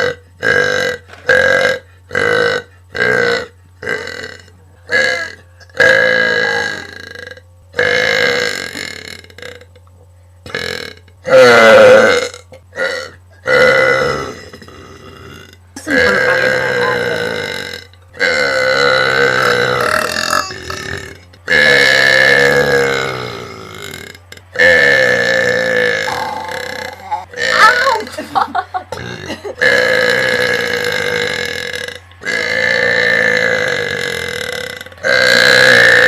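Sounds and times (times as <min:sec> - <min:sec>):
person burping: 0:00.0 - 0:09.8, 0:10.5 - 0:28.1, 0:28.9 - 0:36.0.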